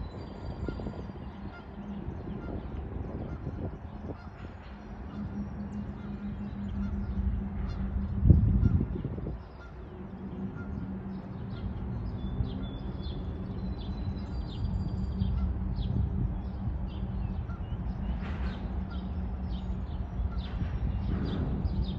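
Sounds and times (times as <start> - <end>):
low hum and rumble: 0.0 - 21.9.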